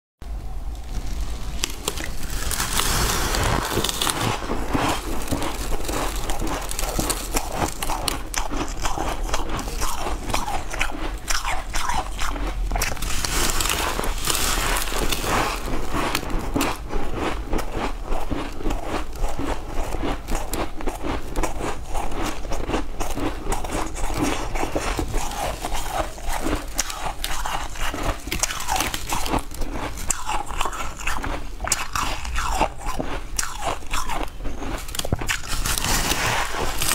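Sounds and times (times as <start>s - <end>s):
crunching ice with teeth: 0.7s - 36.9s.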